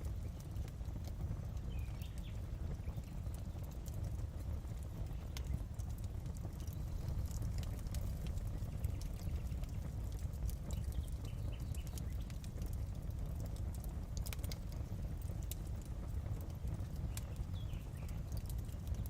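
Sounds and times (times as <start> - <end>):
fireplace fire crackling: 0.0 - 19.0.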